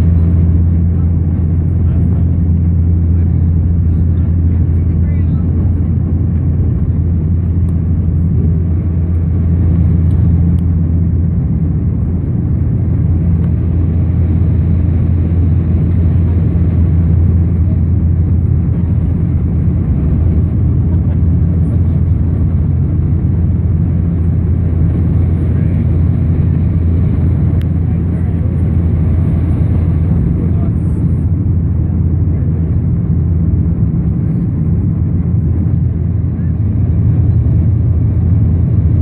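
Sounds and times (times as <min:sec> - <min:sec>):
rushing airflow noise: 0:00.0 - 0:39.0
turboprop engines droning: 0:00.0 - 0:39.0.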